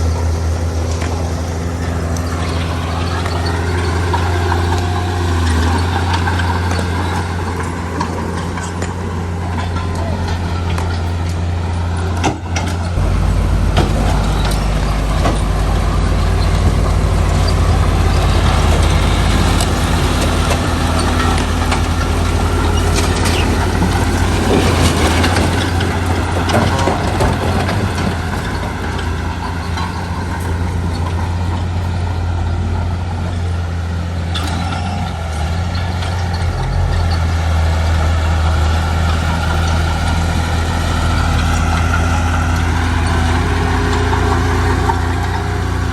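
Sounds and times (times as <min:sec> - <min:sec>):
diesel machinery running: 0:00.0 - 0:45.9.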